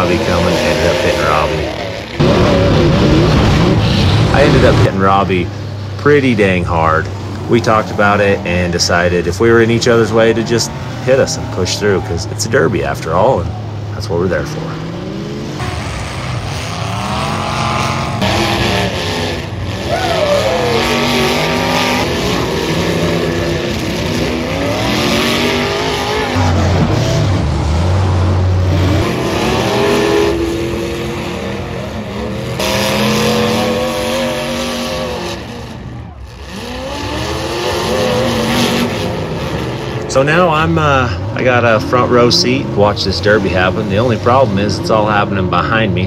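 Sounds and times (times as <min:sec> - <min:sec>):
car engines revving: 0:00.0 - 0:46.0.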